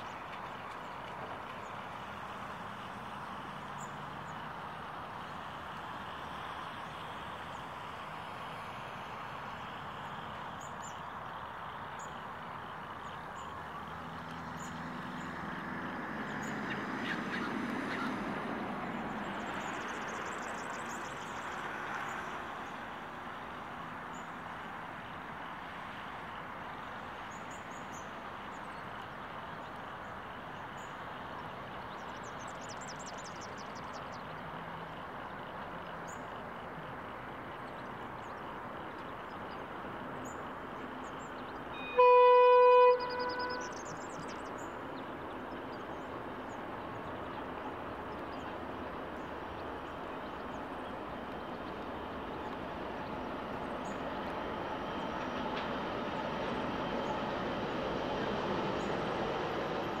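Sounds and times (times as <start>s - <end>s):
distant locomotives rumbling: 0.0s - 60.0s.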